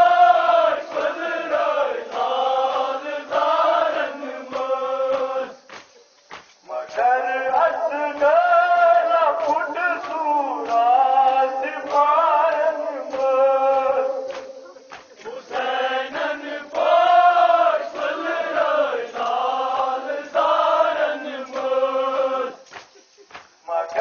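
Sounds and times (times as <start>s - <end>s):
male voices chanting a lament: 0.0s - 5.7s, 6.7s - 22.7s, 23.6s - 24.0s.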